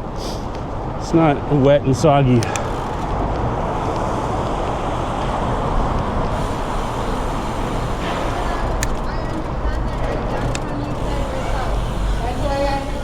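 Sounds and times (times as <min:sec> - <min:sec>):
bicycle road noise: 0:00.0 - 0:13.0
city traffic: 0:00.0 - 0:13.0.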